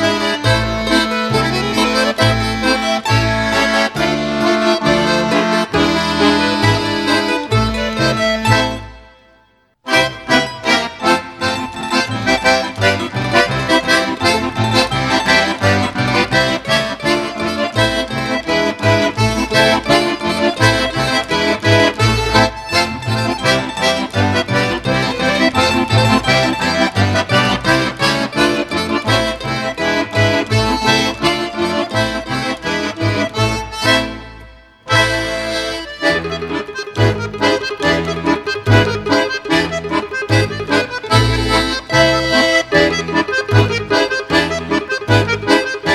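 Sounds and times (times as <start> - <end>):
folk accordion music: 0.0 - 45.9.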